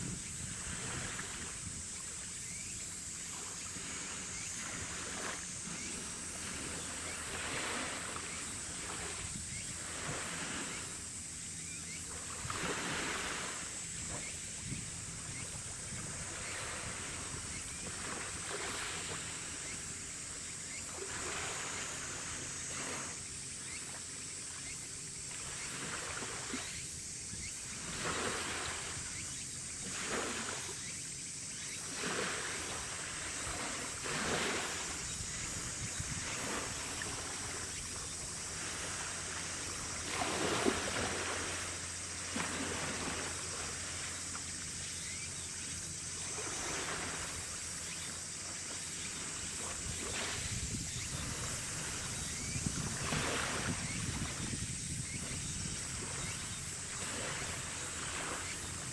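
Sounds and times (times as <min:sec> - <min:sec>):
wind: 0:00.0 - 0:58.9.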